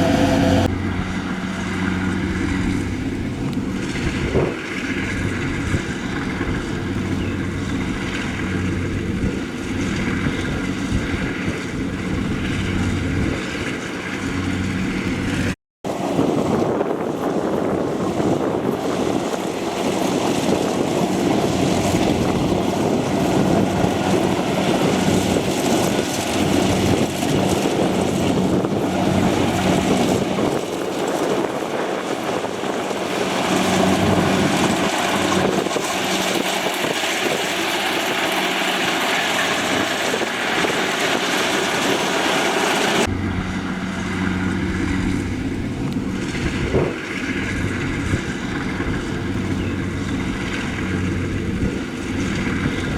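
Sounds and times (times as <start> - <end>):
harvester engine running: 0.0 - 15.5, 19.6 - 52.9
wind on microphone: 0.0 - 52.9.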